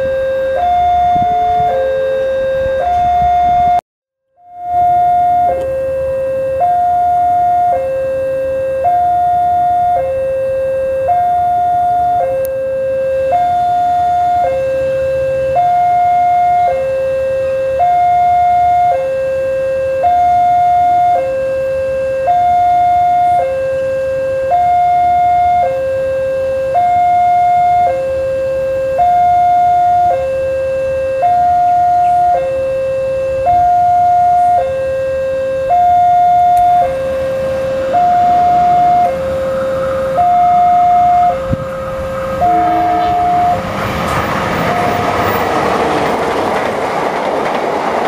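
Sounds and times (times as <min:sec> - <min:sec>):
level-crossing warning alarm: 0:00.0 - 0:03.8, 0:04.4 - 0:47.6.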